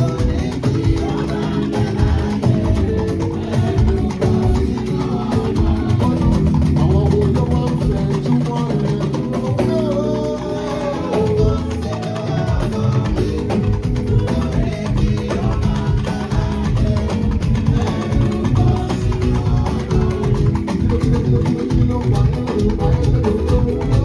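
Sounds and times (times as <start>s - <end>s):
live band music: 0.0s - 24.0s
person singing: 0.0s - 24.0s.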